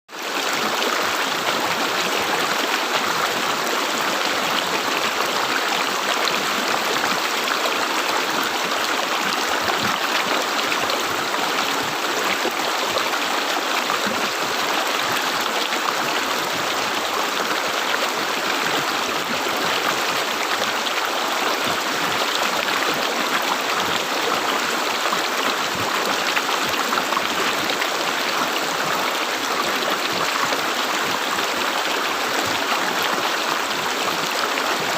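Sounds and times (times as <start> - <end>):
water rushing over rocks: 0.1 - 34.9.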